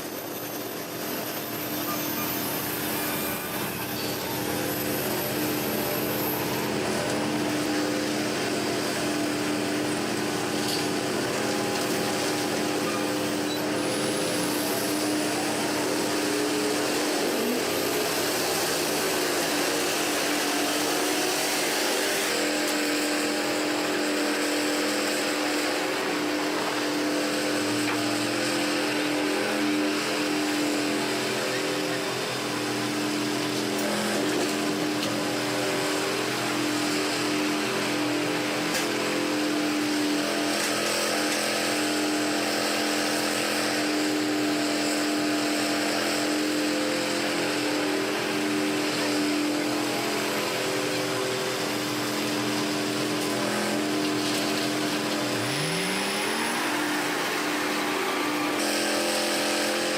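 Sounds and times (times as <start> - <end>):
heavy machinery engine droning: 0.0 - 59.9.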